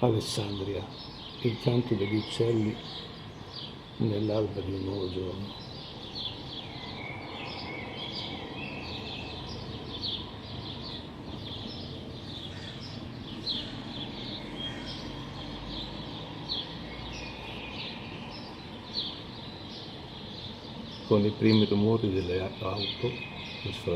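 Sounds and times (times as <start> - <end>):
distant city traffic rumble: 0.0 - 23.9
small birds chirping and singing: 0.0 - 23.9.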